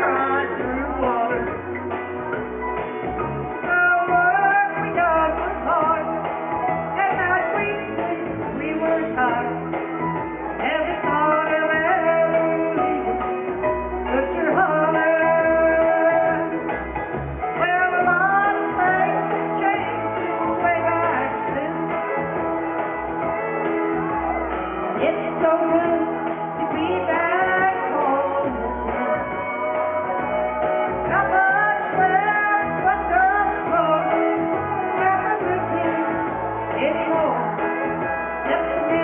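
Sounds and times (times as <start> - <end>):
woman singing into a microphone: 0.0 - 2.0, 3.5 - 16.8, 17.4 - 22.6, 24.9 - 30.3, 31.0 - 39.0
backing track with bass: 0.0 - 39.0.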